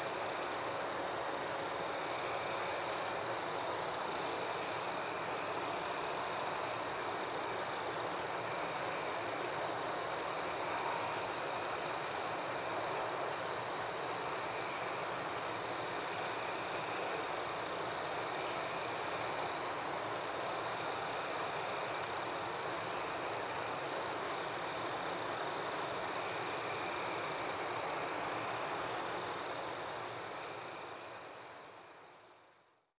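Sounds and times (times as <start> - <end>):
insect trill: 0.0 - 32.9.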